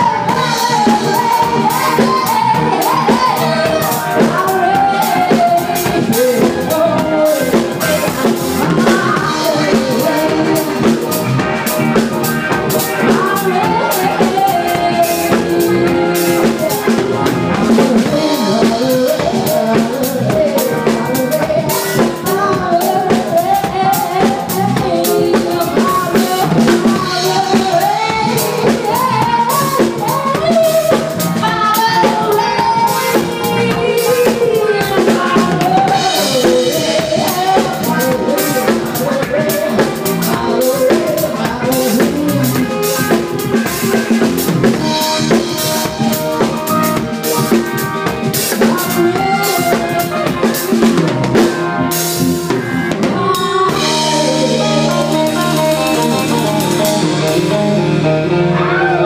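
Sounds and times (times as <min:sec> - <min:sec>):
drum kit playing: 0:00.0 - 0:59.0.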